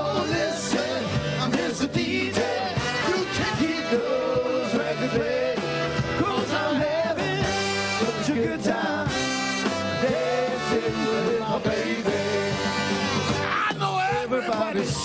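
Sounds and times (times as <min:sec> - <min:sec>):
rock and roll band playing: 0:00.0 - 0:15.0.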